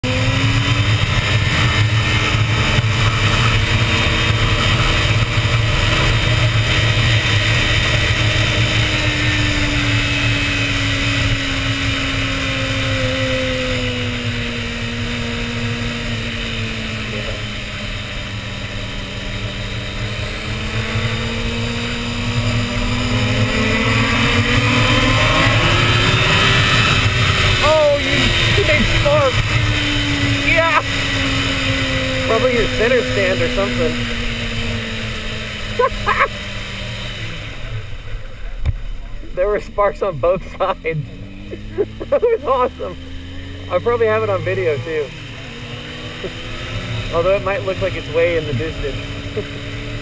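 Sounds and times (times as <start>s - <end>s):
motorcycle engine: 0.0s - 50.0s
wind and road noise: 0.0s - 50.0s.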